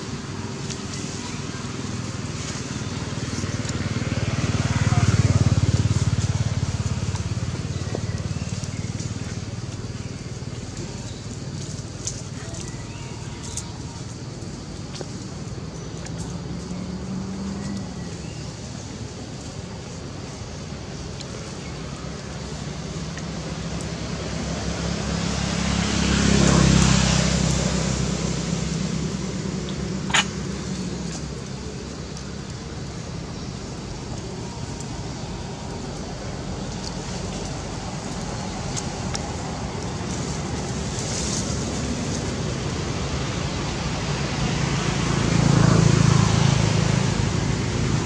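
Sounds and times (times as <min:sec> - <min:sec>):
low rumbling background noise: 0:00.0 - 0:48.0
motor vehicle passing by: 0:00.0 - 0:48.0.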